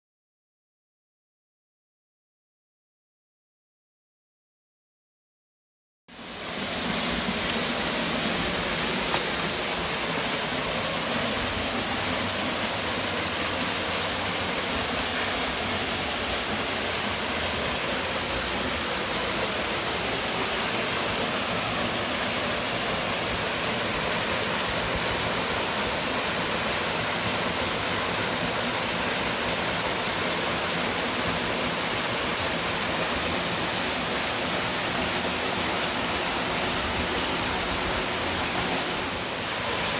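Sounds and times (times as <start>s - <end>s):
waterfall rushing: 6.2s - 39.9s.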